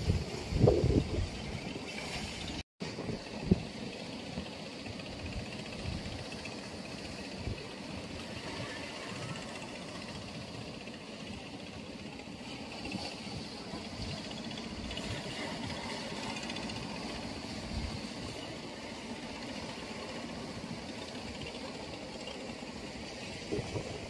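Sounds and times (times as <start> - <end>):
boat engine running: 0.0 - 24.0
water and wind hiss: 0.0 - 24.0.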